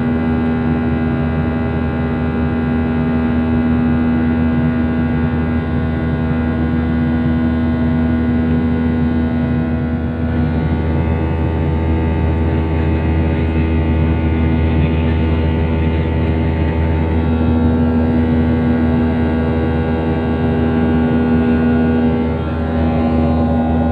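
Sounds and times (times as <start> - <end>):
airplane engines droning: 0.0 - 23.9.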